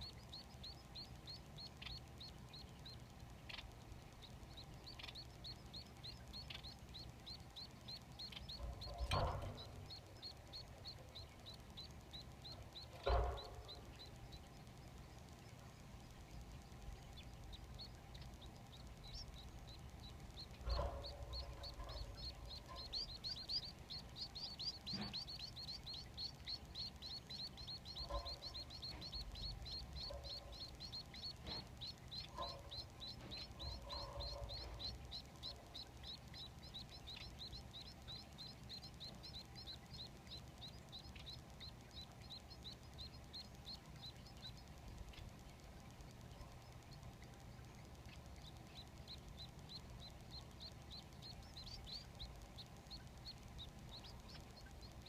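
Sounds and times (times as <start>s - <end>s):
nestlings chirping: 0.0s - 55.0s.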